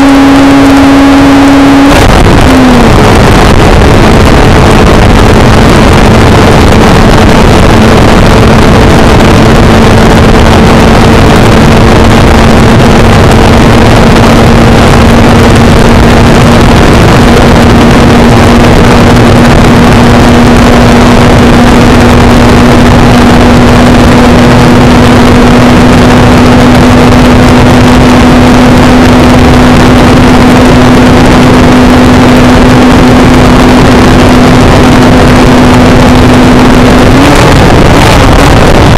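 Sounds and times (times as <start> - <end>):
motorcycle engine at high speed: 0.0 - 38.9
wind noise: 0.0 - 38.9.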